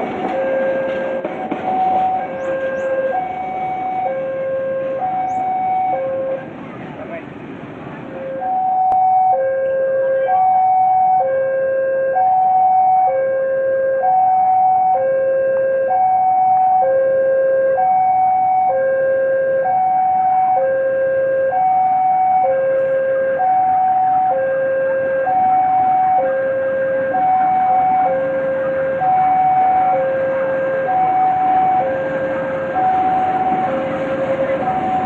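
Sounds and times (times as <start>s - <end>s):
level crossing two-tone alarm: 0.2s - 6.4s, 8.2s - 35.0s.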